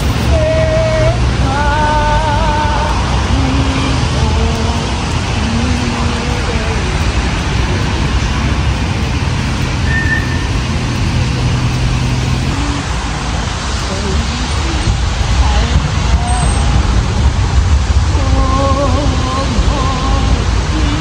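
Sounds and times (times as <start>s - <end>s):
rain on paving and umbrellas: 0.0s - 21.0s
road traffic: 0.0s - 21.0s.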